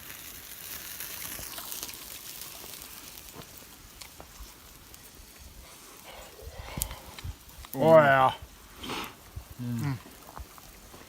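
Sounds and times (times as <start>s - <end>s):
sausages sizzling over a fire: 0.0s - 11.0s
small crackles and pops: 0.0s - 11.0s.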